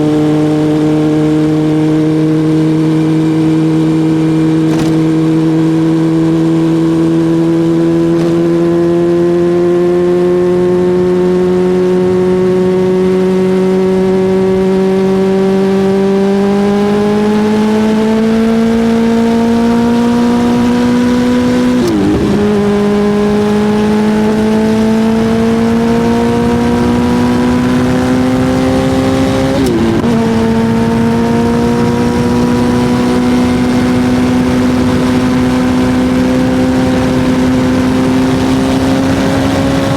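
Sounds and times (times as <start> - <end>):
motorcycle engine running hard: 0.0 - 39.9
rushing wind noise: 0.0 - 39.9.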